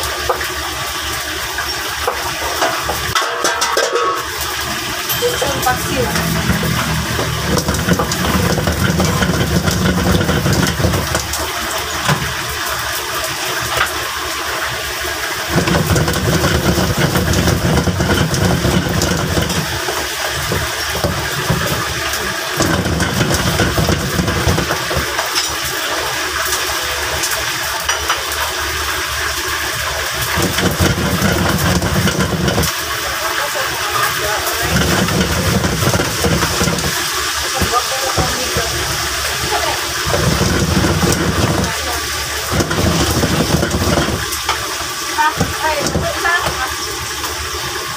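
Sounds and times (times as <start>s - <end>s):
gas burner hissing and rumbling: 0.0s - 47.9s.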